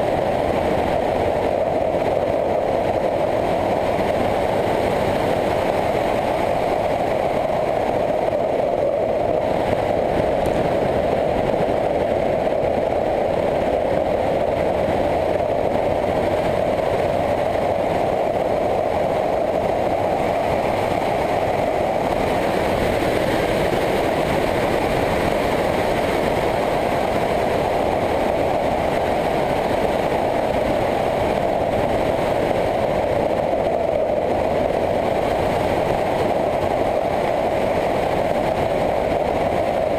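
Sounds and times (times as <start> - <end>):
motorcycle engine cruising: 0.0 - 39.9
riding noise rush: 0.0 - 39.9.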